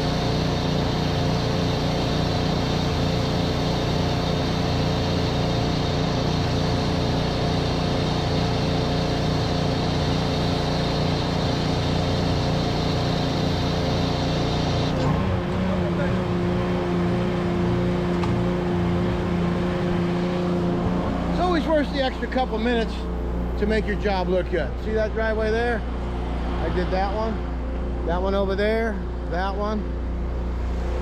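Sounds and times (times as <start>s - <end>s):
pressure washer engine running: 0.0s - 27.3s.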